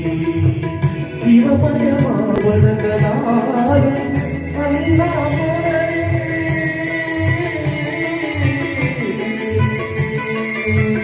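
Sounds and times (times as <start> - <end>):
drums and high percussion: 0.0 - 11.0
person singing devotional song: 0.0 - 11.0
sustained instrumental tones: 0.0 - 11.0.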